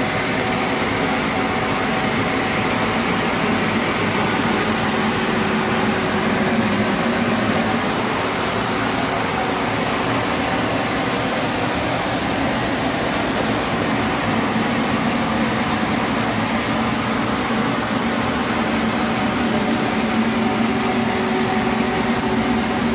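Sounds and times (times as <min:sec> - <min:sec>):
ventilation fan running: 0:00.0 - 0:22.9.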